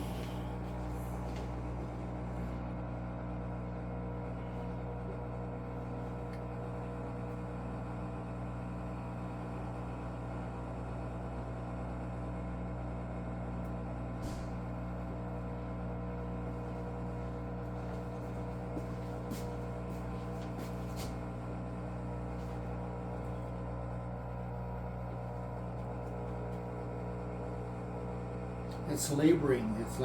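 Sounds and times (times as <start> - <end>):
washing machine drain pump humming: 0.0 - 30.0.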